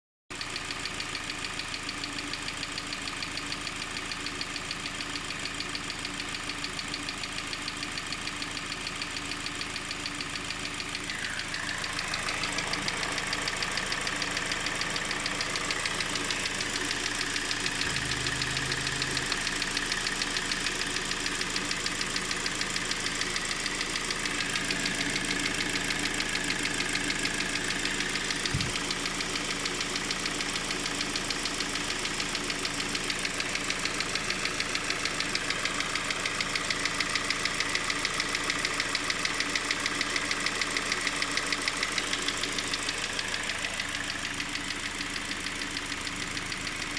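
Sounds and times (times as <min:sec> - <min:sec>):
car engine idling with knocking: 0:00.3 - 0:46.9.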